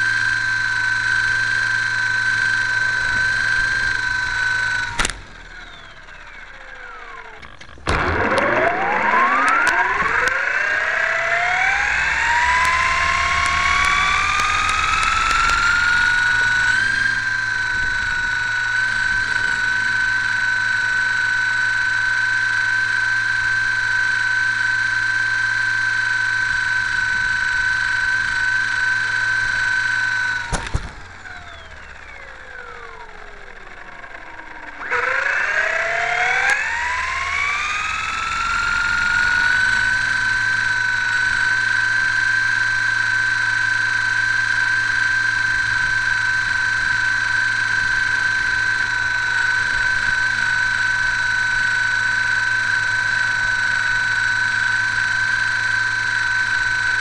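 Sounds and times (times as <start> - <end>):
model plane motor whining: 0.0 - 57.0.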